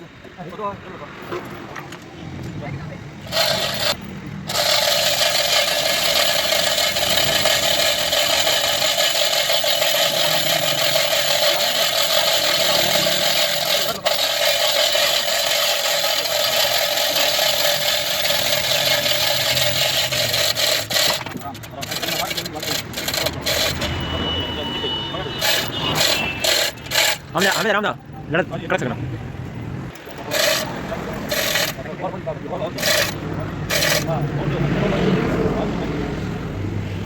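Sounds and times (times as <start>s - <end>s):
harsh noise of metal being worked: 0.4s - 37.0s.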